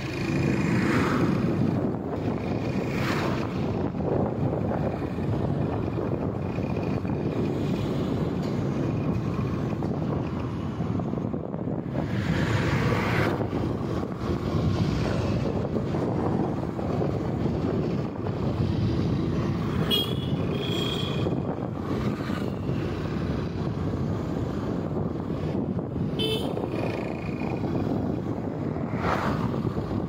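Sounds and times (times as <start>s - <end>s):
vehicle engine and road noise: 0.0s - 30.0s
wind on microphone: 0.0s - 30.0s.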